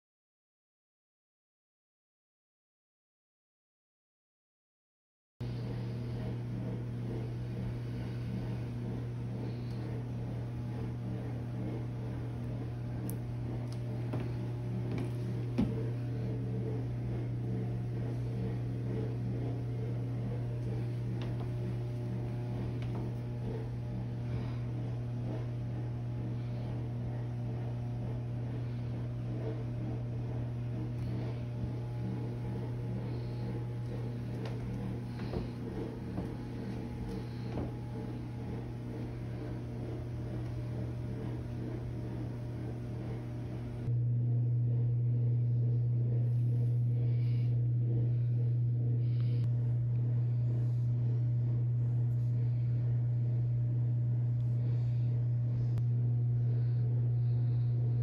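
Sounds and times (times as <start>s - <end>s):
motor humming: 5.4s - 58.0s.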